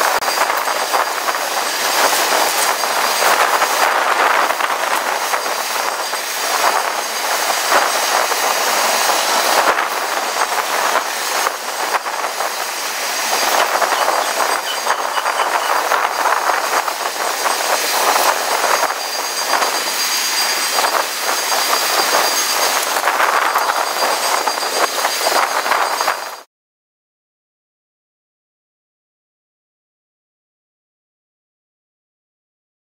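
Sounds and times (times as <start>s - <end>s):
freight train wheels on rails: 0.0s - 26.5s.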